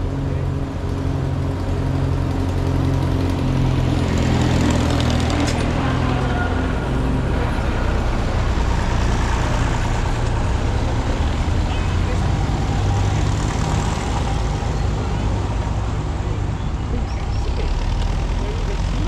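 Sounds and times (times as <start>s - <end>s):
tractor engines driving past: 0.0s - 19.0s.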